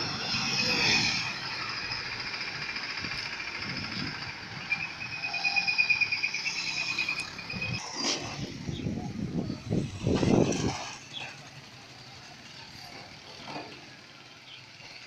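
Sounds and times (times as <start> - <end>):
roadside traffic: 0.0 - 15.0
small motorcycle passing: 0.0 - 15.0.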